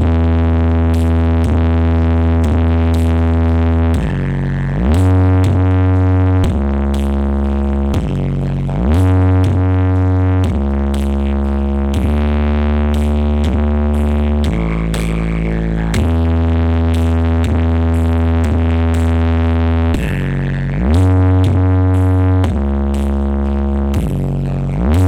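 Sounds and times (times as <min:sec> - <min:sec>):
electronic dance music: 0:00.0 - 0:25.0.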